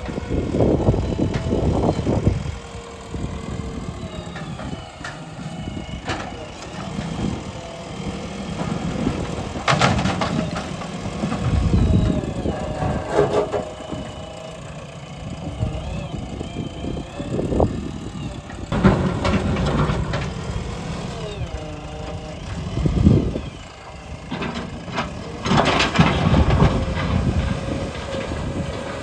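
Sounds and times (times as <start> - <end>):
excavator diesel engine under load: 0.0 - 29.0.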